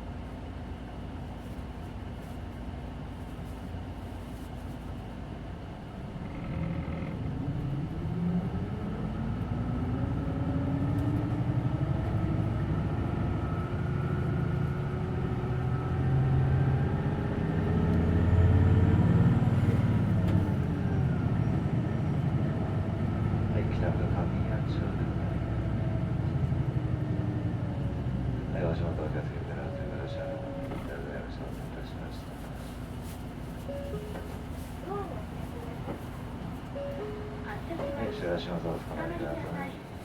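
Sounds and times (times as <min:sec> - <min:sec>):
bus drivetrain whine: 0:00.0 - 0:40.0
low engine rumble: 0:00.0 - 0:40.0.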